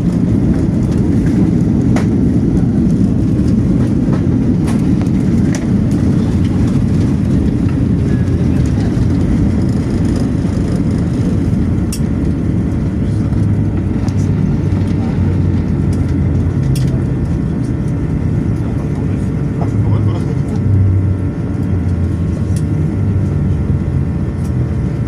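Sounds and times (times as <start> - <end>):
aircraft cabin rumble: 0.0 - 25.0.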